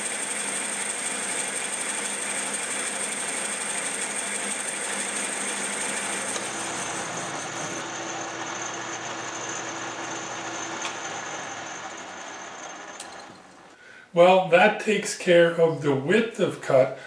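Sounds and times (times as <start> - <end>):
metal lathe running: 0.0 - 13.8.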